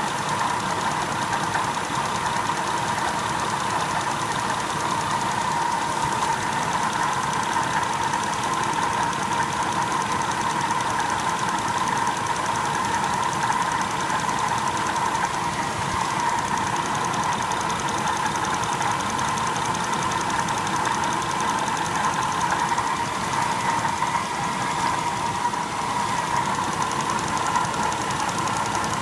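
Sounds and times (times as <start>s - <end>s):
car engine running steadily: 0.0s - 29.0s.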